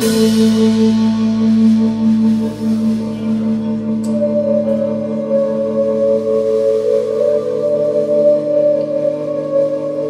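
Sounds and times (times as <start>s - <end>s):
droning electric guitar and bass: 0.0s - 10.0s
higher sustained tone: 0.0s - 10.0s.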